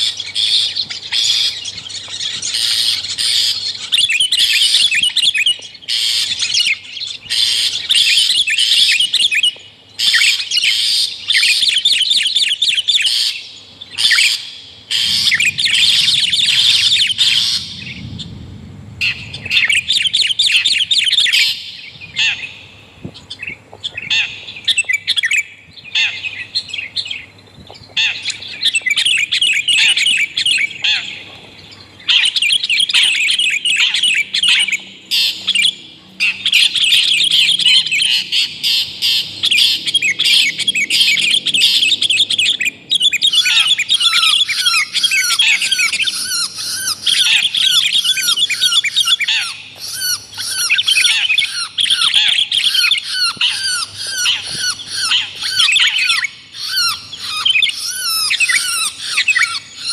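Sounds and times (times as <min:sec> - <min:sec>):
birds chattering and squawking: 0:00.0 - 0:18.4, 0:19.0 - 0:59.9.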